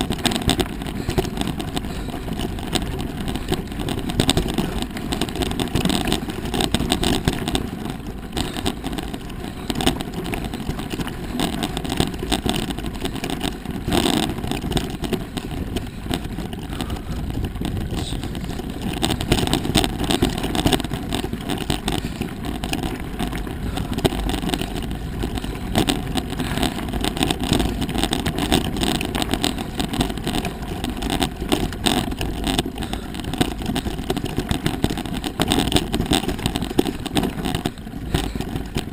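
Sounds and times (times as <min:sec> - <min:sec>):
bike tyres rattling on stones: 0:00.0 - 0:38.9
wind rumble: 0:00.0 - 0:38.9.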